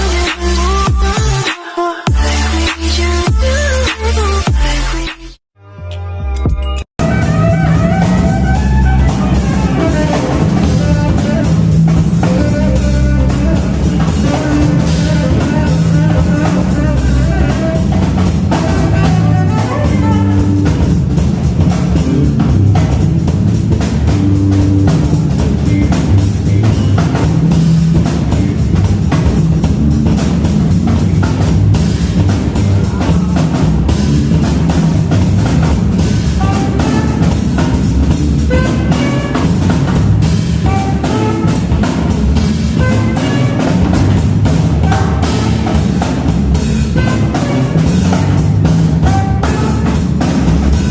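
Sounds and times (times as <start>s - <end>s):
band playing rock music: 7.0s - 50.9s.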